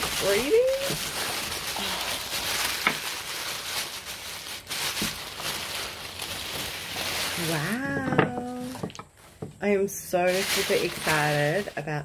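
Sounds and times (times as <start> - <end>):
paper packing wrap rustling: 0.0 - 12.0.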